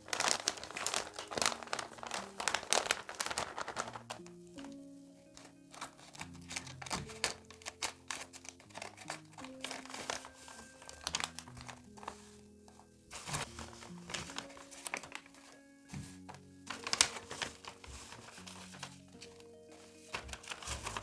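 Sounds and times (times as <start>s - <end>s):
paper crinkling and rustling: 0.0s - 21.0s
slow background music: 0.0s - 21.0s.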